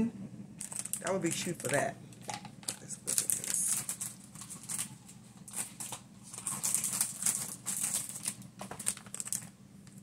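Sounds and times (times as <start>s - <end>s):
packaging crinkling and rustling: 0.6s - 10.0s.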